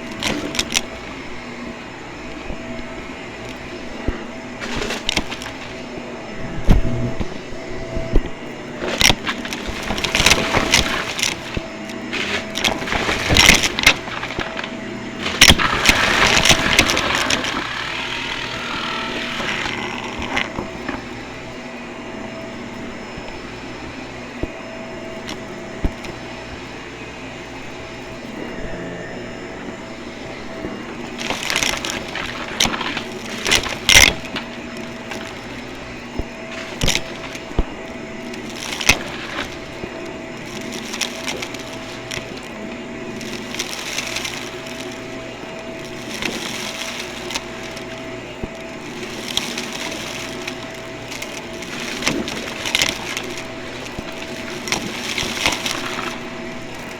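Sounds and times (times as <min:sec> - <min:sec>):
vacuum cleaner motor hum: 0:00.0 - 0:56.9
clattering and crackling: 0:02.4 - 0:06.0, 0:08.0 - 0:26.6, 0:30.0 - 0:56.9.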